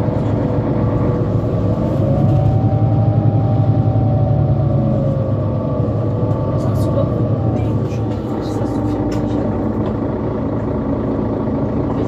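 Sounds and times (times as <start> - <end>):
bus diesel engine whining: 0.0 - 12.0.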